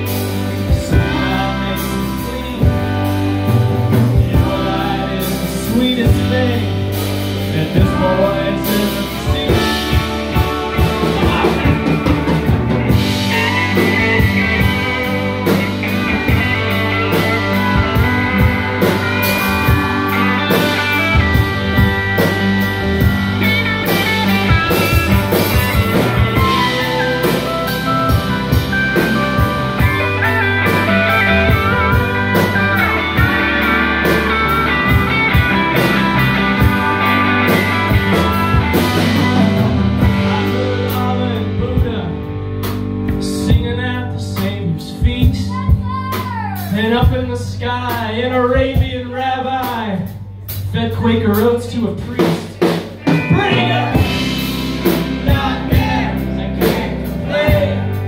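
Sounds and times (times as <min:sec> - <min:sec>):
pedal steel guitar: 0:00.0 - 0:44.8, 0:52.6 - 0:58.0
drum kit beat: 0:00.0 - 0:58.0
electric bass: 0:00.0 - 0:58.0
electric guitars: 0:00.0 - 0:58.0.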